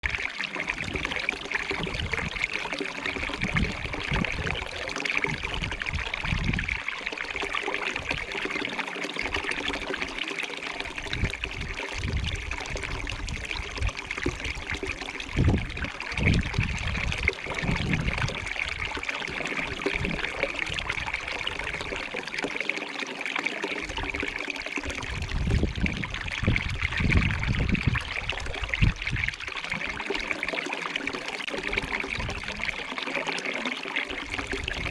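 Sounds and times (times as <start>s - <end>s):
stream trickling: 0.0s - 34.9s.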